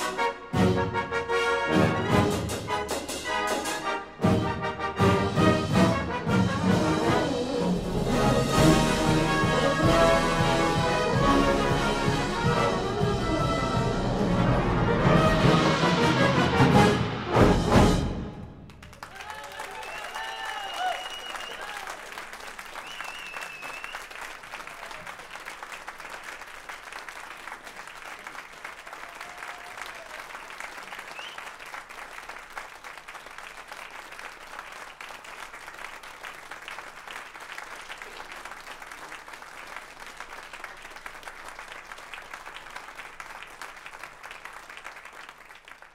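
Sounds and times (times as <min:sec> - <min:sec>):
audience applauding: 0:05.4 - 0:16.0, 0:18.6 - 0:45.9.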